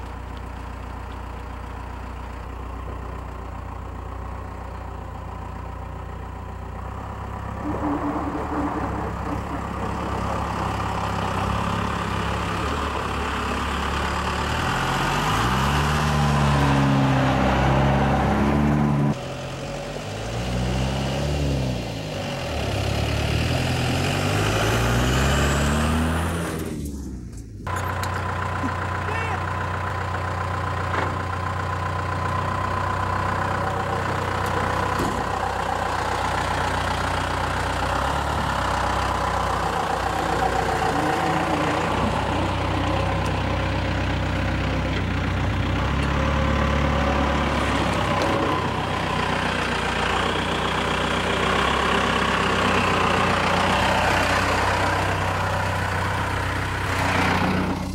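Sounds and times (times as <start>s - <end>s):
diesel truck engine idling and revving: 0.0s - 57.9s.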